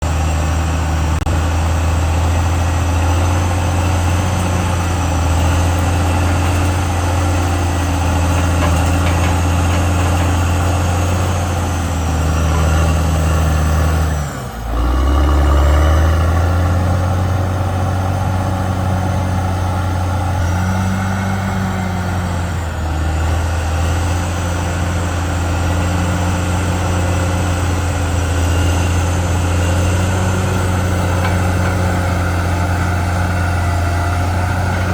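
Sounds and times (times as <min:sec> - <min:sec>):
bulldozer diesel engine working: 0:00.0 - 0:34.9.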